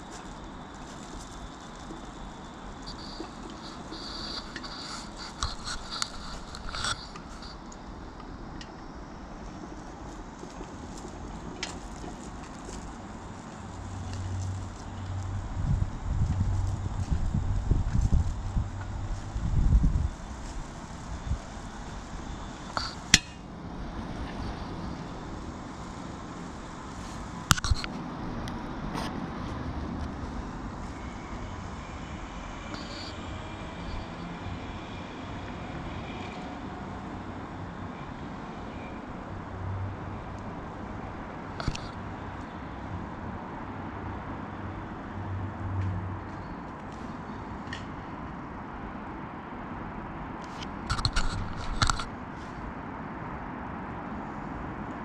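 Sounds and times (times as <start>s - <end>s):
wind rushing over camera: 0.0s - 44.3s, 49.9s - 55.0s
low rumble of ride moving: 0.0s - 49.2s.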